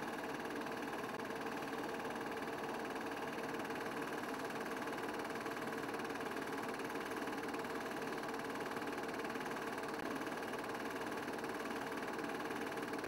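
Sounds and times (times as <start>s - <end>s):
film projector whirring: 0.0s - 13.0s.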